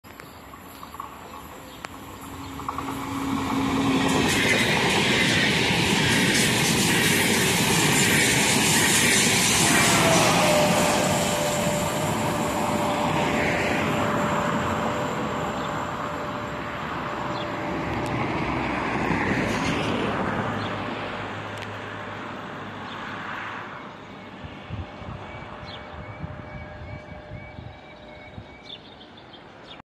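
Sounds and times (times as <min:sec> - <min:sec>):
train wheel and rail noise: 0:00.0 - 0:29.8
steady train whine: 0:00.1 - 0:29.6.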